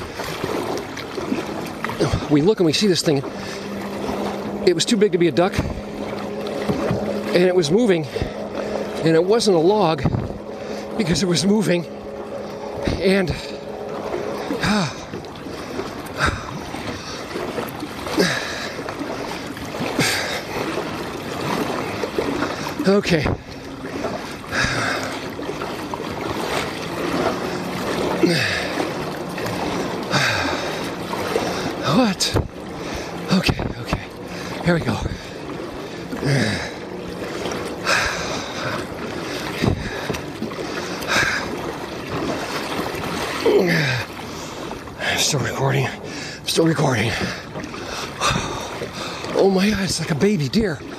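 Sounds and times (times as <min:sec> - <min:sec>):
paddle strokes in water: 0:00.0 - 0:50.9
water washing: 0:00.0 - 0:50.9.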